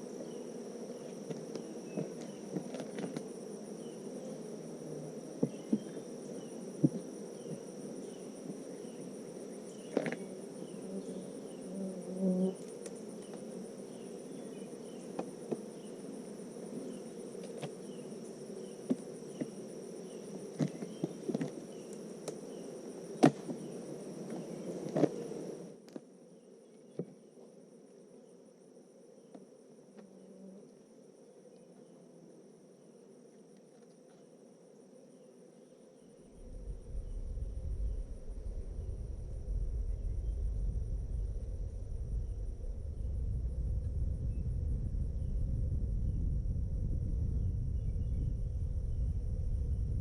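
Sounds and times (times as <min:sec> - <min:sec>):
high insect trill: 0:00.0 - 0:50.0.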